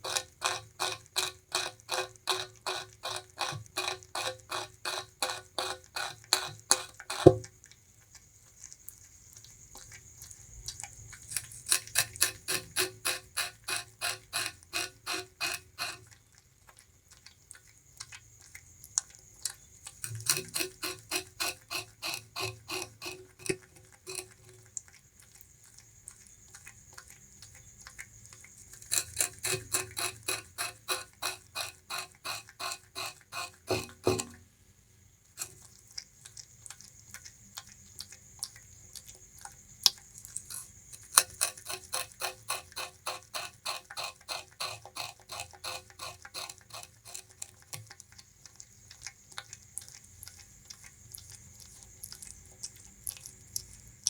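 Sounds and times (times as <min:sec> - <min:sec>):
rat crunching sugarcane: 0:00.0 - 0:34.5, 0:35.3 - 0:54.0.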